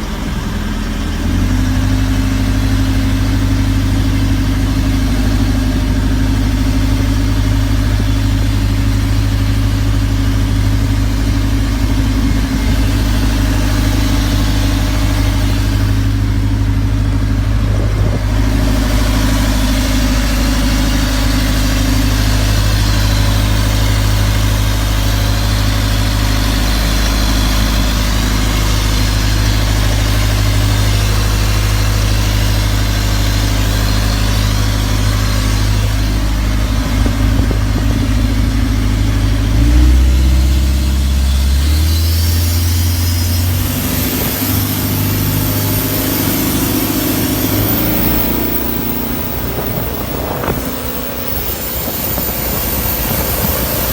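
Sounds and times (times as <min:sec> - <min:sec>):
diesel boat engine idling: 0:00.0 - 0:53.9.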